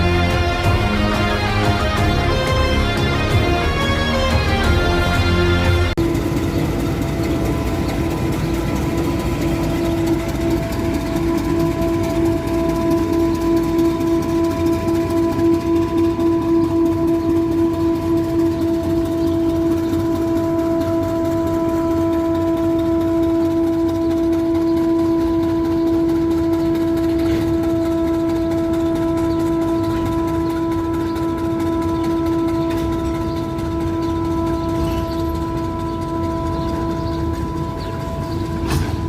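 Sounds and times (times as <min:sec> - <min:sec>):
locomotive steady whine: 0:00.0 - 0:39.0
low engine rumble: 0:00.0 - 0:39.0.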